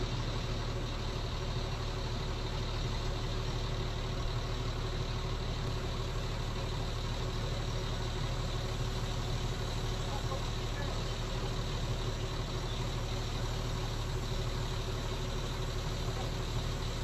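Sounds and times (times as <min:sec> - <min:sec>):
engine idling with low rumble: 0:00.0 - 0:17.0.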